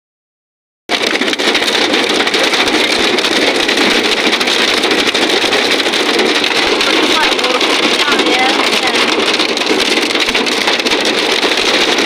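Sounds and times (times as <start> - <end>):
heavy rain and hail pelting: 0.9 - 12.0.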